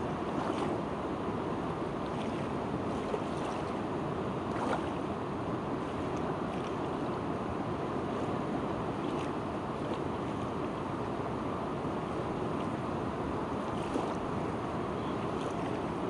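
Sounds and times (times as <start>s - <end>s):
river rushing: 0.0s - 16.0s
water splashing and lapping: 0.0s - 16.0s.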